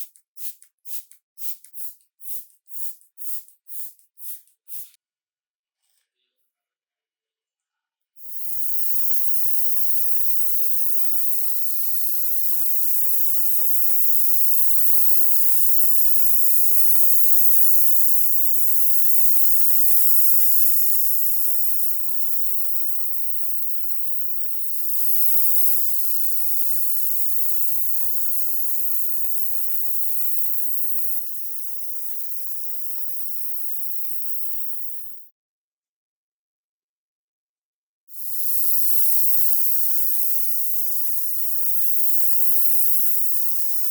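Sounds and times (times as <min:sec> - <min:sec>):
paint spray hissing: 0:00.0 - 0:04.9, 0:08.3 - 0:35.2, 0:38.1 - 0:43.9.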